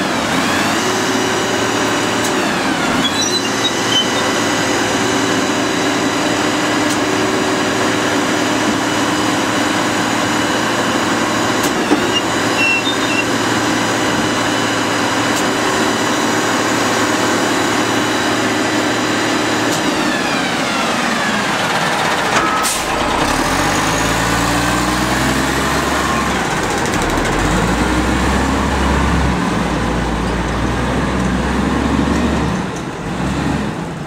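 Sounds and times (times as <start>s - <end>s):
garbage truck diesel engine: 0.0s - 34.0s.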